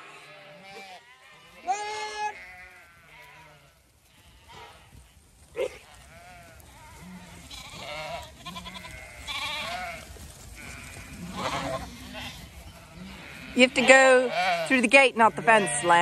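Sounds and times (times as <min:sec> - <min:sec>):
sheep bleating: 0:00.0 - 0:16.0.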